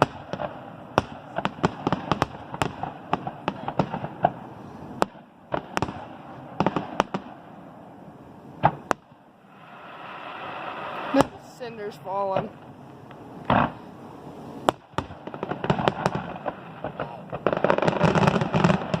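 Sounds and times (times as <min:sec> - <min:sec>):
fireworks bangs and crackles: 0:00.0 - 0:07.8, 0:08.5 - 0:19.0.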